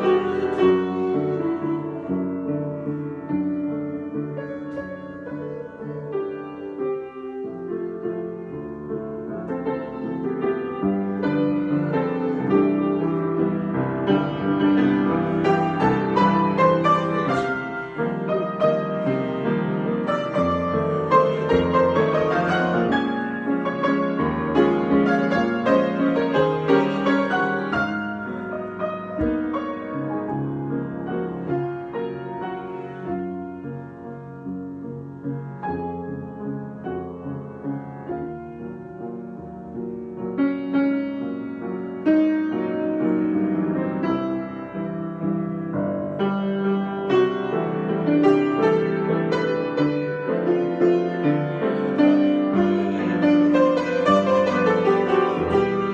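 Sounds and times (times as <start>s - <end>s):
solo piano improvisation: 0.0s - 55.9s.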